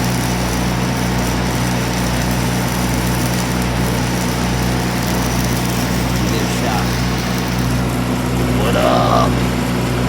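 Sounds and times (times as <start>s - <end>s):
arc welding crackling: 0.0s - 9.4s
welding machines humming: 0.0s - 10.0s.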